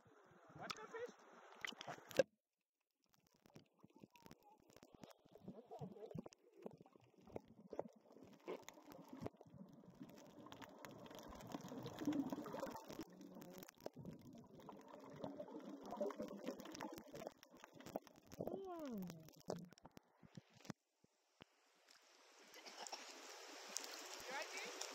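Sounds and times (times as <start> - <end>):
small clicks and pops: 0.6 - 20.8
water sloshing and bubbling underwater: 0.6 - 20.8.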